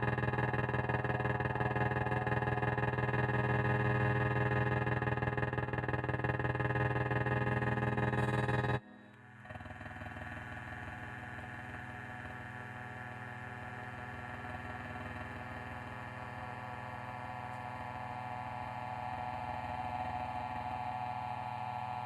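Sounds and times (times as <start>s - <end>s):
hum of layered held tones: 0.0s - 22.0s.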